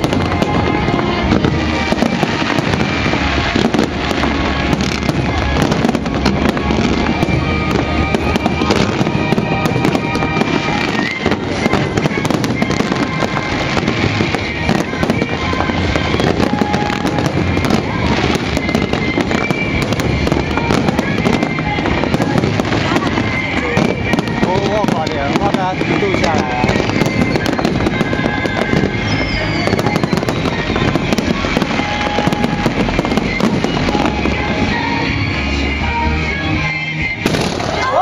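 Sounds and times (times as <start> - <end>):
fireworks booming and crackling: 0.0 - 38.0
music playing: 0.0 - 38.0.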